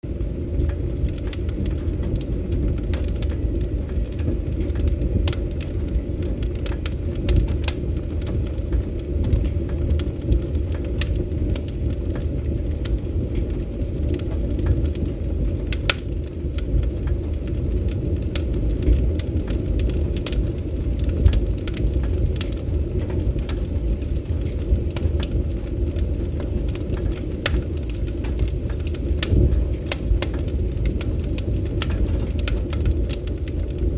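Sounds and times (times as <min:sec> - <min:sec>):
fire popping and snapping: 0:00.0 - 0:33.9
low rumble of burning: 0:00.0 - 0:33.9.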